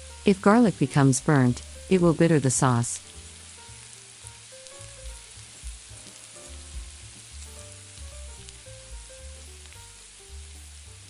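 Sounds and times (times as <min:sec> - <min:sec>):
soft background music: 0:00.0 - 0:11.0
vegetables sizzling in pan: 0:00.0 - 0:11.0.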